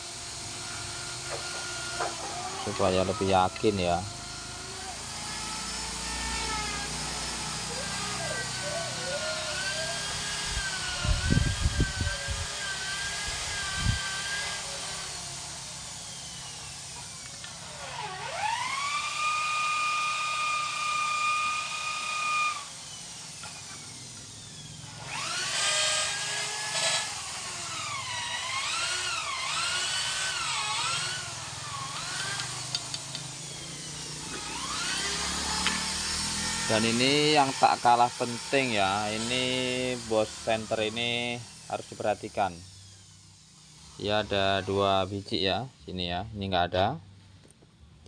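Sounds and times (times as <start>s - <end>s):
power tool motor whining: 0.0s - 46.0s.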